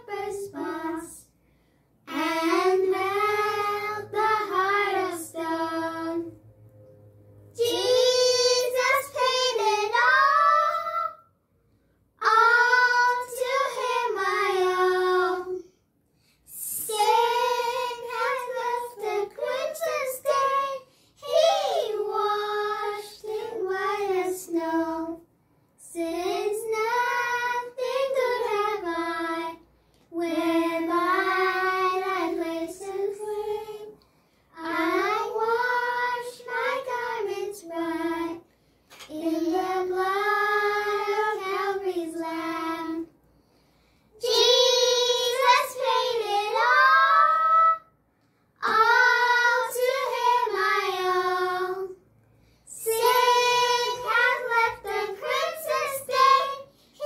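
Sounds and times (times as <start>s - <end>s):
young girls singing: 0.0s - 1.4s, 2.0s - 6.5s, 7.6s - 11.4s, 12.1s - 15.8s, 16.5s - 43.2s, 44.2s - 57.0s.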